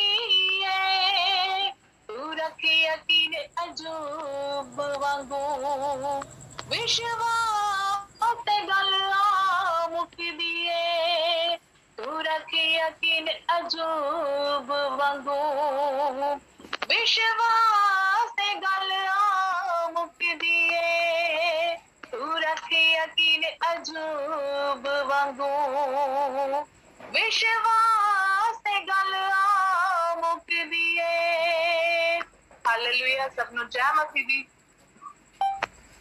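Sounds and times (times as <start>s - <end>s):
woman singing a hymn: 0.0s - 34.4s.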